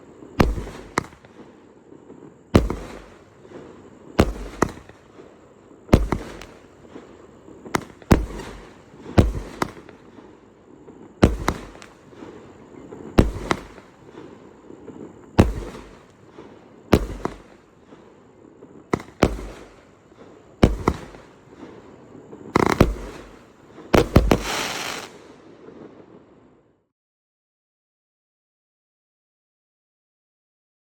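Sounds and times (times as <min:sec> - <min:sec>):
fireworks bangs: 0:00.0 - 0:26.2
fireworks crackling: 0:00.0 - 0:26.6.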